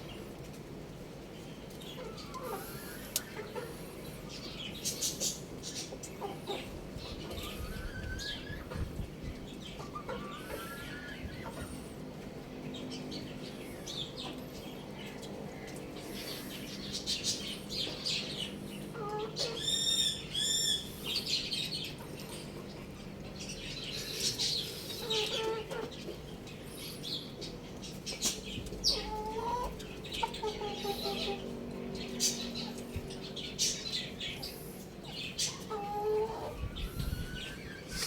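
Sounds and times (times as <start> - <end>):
chickens calling: 0.0 - 38.0
small birds chirping: 0.0 - 38.0.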